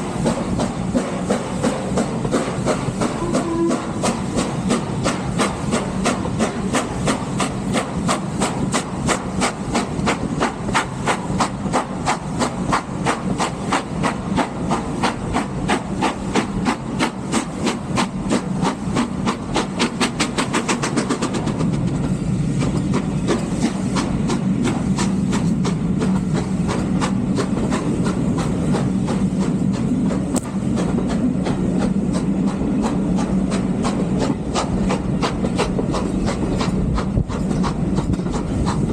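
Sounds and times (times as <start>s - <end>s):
steam locomotive exhaust beats: 0.0s - 38.9s
train rumble and hiss: 0.0s - 38.9s.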